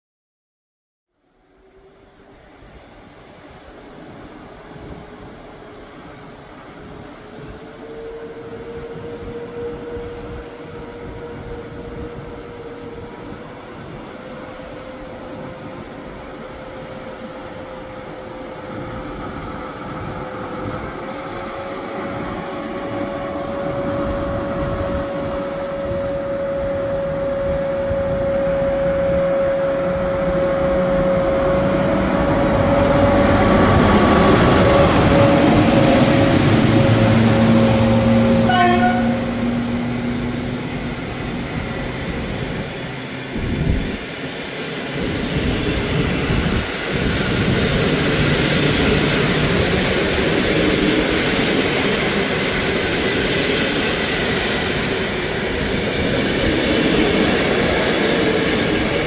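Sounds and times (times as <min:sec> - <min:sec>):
electric locomotive whine: 0:01.2 - 0:59.0
train rumble: 0:01.3 - 0:59.0.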